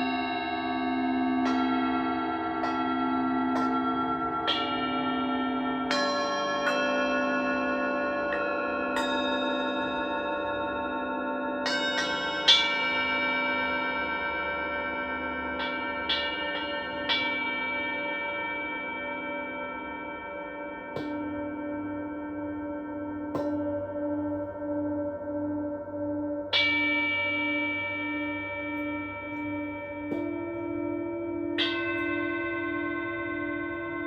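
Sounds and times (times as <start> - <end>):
singing bowls ringing: 0.0 - 34.0.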